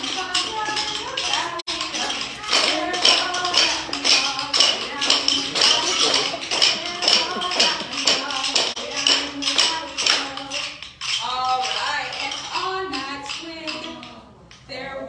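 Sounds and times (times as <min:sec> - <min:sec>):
rhythmic percussion taps: 0:00.0 - 0:14.2.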